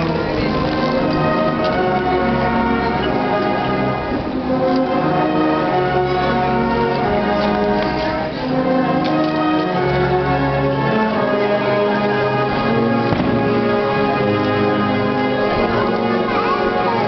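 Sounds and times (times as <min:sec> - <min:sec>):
marching band playing chords: 0:00.0 - 0:17.0.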